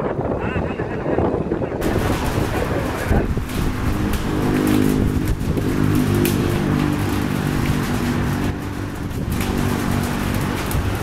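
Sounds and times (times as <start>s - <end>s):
jet engines running: 0.2s - 11.0s.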